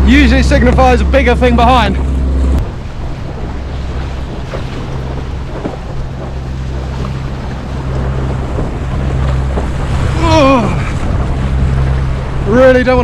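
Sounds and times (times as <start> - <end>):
choppy sea water splashing: 0.0 - 13.0
wind buffeting microphone: 0.0 - 13.0.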